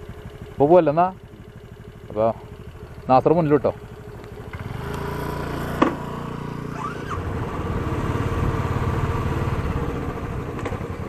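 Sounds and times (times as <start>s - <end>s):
motorcycle engine pulling away: 0.0s - 11.0s.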